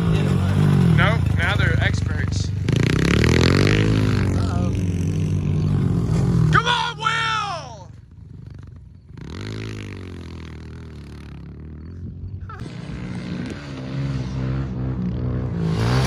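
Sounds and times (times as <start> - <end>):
pit bike engine revving: 0.0 - 6.7, 8.2 - 16.0.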